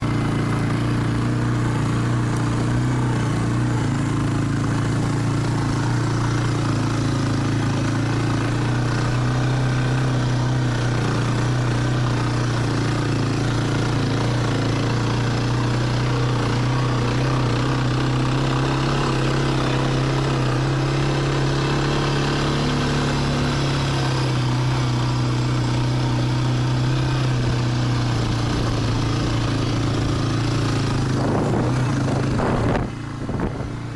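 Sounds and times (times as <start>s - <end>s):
atv engine running: 0.0s - 33.9s.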